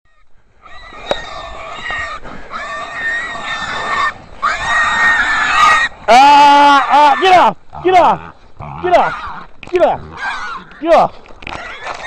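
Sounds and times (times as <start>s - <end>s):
hog squealing: 0.6s - 12.0s.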